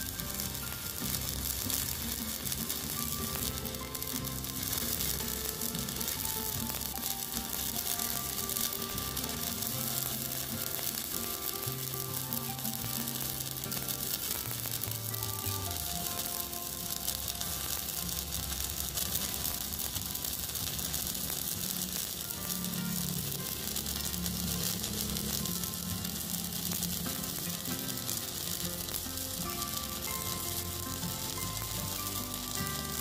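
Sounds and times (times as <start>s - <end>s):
welding arc hissing: 0.0s - 33.0s.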